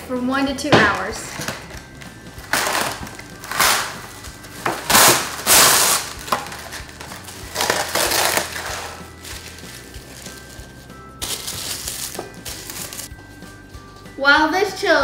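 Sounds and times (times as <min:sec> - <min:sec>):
plastic wrap crinkling and tearing: 0:00.9 - 0:13.1.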